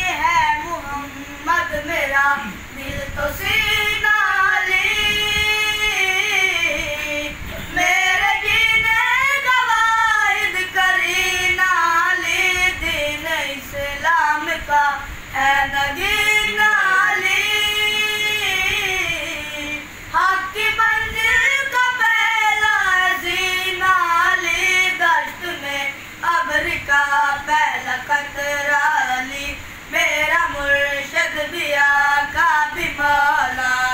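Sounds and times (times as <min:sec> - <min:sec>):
boys singing unaccompanied: 0:00.0 - 0:33.9.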